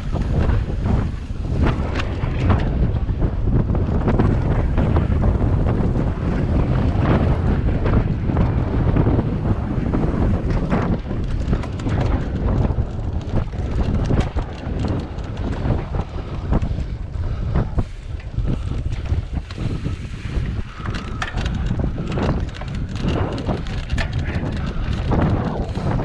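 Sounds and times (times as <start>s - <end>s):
bike rattling and knocking: 0.0s - 26.0s
wind buffeting microphone: 0.0s - 26.0s.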